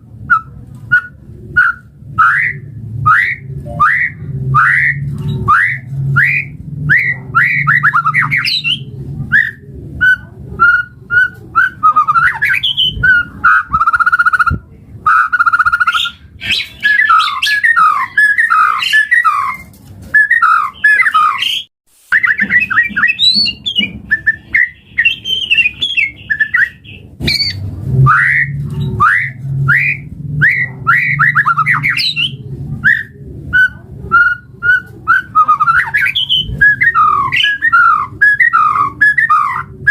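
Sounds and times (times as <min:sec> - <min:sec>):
bird singing whistled trills: 0:00.3 - 0:14.5, 0:15.1 - 0:39.9.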